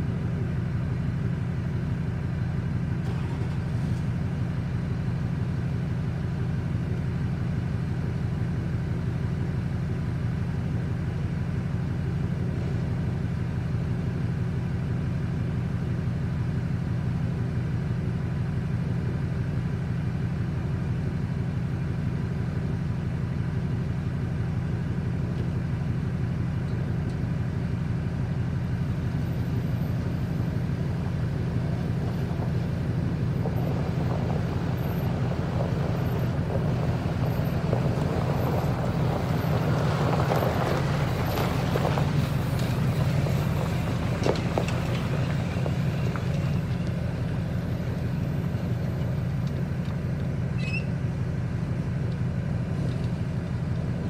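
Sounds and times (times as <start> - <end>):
pickup truck engine running: 0.0 - 54.0
tyres and trailer on gravel: 0.0 - 54.0.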